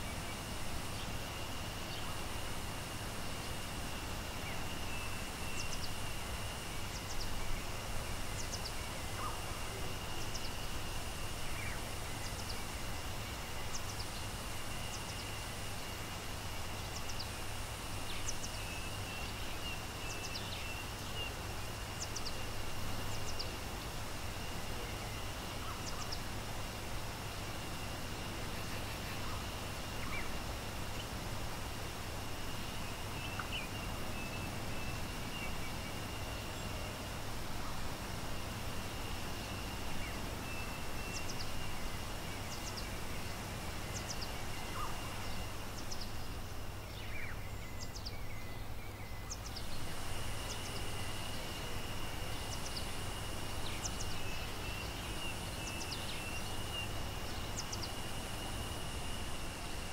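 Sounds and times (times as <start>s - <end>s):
constant high-pitched hum: 0.0s - 59.9s
small birds chirping: 0.0s - 59.9s.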